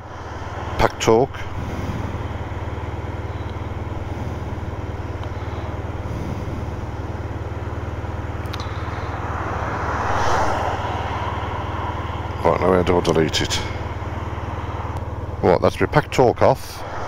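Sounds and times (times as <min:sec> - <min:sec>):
motorcycle engine idling: 0:00.0 - 0:16.8.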